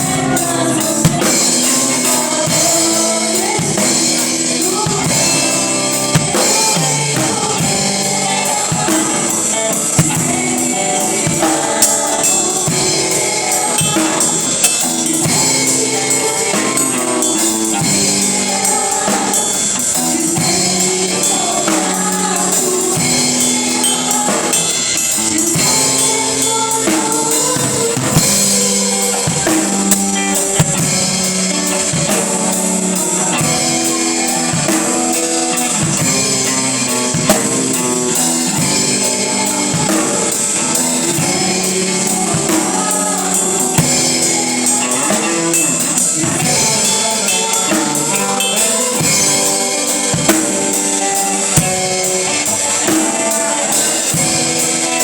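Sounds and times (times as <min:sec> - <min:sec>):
band playing worship music: 0:00.0 - 0:55.0
people singing: 0:00.0 - 0:55.0.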